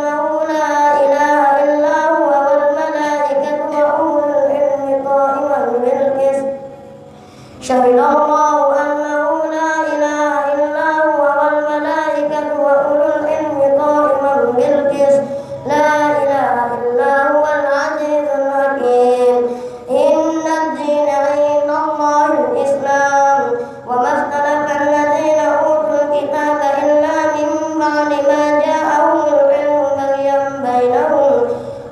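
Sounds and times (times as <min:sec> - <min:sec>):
boy chanting melodically: 0:00.0 - 0:31.9.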